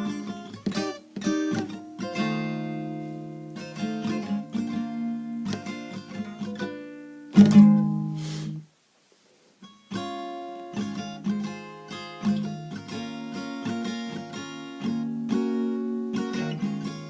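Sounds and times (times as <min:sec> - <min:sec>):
acoustic guitar strumming: 0:00.0 - 0:08.7, 0:09.6 - 0:17.0.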